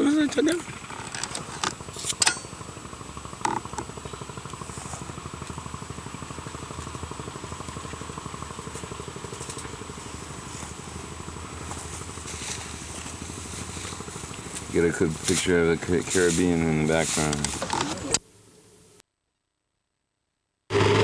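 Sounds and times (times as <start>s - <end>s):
engine idling: 0.0s - 19.0s, 20.7s - 21.0s.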